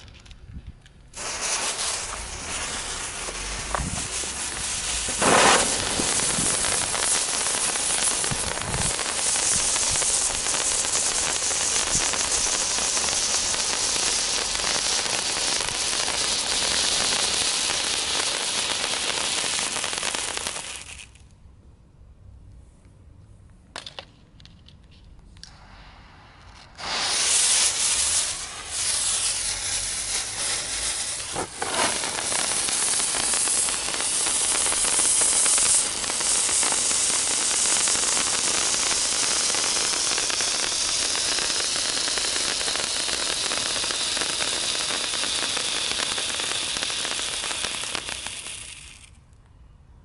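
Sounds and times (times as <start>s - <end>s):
sharp crack: 0.9s - 21.3s, 26.6s - 49.5s
firework fountain hissing sparks: 1.1s - 21.3s, 25.4s - 49.3s.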